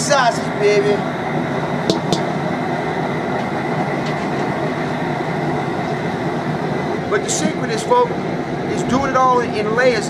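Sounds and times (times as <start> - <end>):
gas burner rushing: 0.0 - 10.0.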